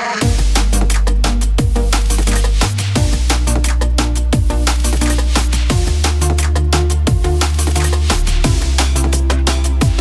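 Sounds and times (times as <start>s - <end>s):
drum and bass music: 0.0s - 10.0s.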